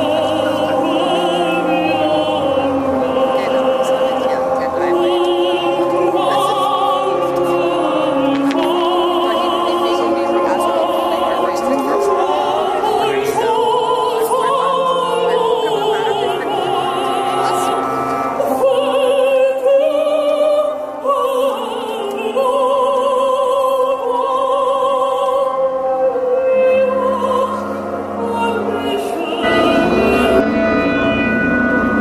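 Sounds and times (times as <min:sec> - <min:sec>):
classical music: 0:00.0 - 0:32.0
operatic singing with vibrato: 0:00.0 - 0:32.0.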